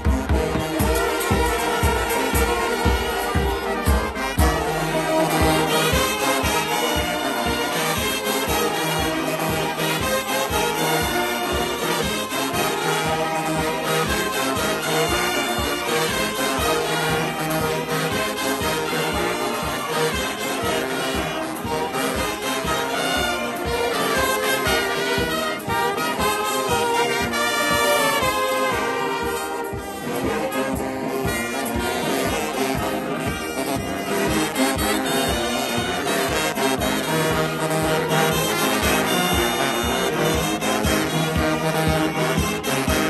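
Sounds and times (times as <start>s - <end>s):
brass band playing: 0.0s - 43.0s
steady drum beat: 0.0s - 43.0s.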